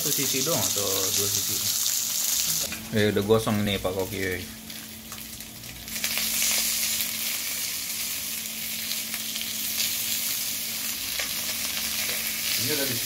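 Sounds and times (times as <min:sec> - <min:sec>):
fish sizzling in hot oil: 0:00.0 - 0:02.7, 0:04.1 - 0:13.0.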